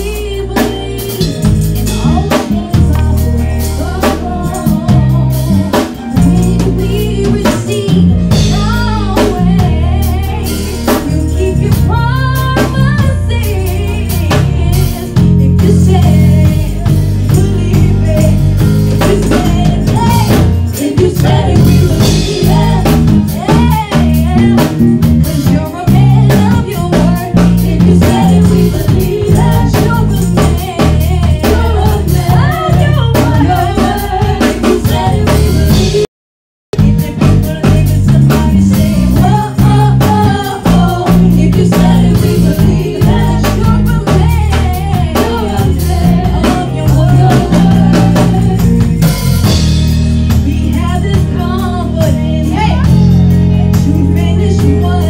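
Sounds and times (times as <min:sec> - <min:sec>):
drums: 0:00.0 - 0:36.1, 0:36.7 - 0:55.0
heavy bass line: 0:00.0 - 0:36.1, 0:36.7 - 0:55.0
women singing gospel song: 0:00.0 - 0:36.1, 0:36.8 - 0:49.2, 0:50.3 - 0:55.0.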